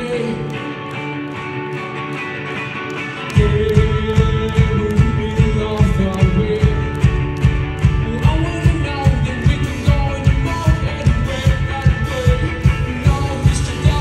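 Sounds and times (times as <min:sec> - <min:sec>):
person singing: 0:00.0 - 0:00.9, 0:03.2 - 0:14.0
live rock band playing: 0:00.0 - 0:14.0.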